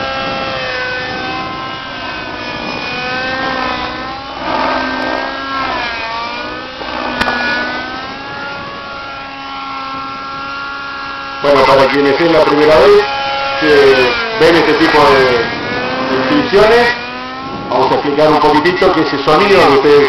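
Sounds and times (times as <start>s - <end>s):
model helicopter engine whine: 0.0s - 20.0s
rotor blades rushing: 0.0s - 20.0s.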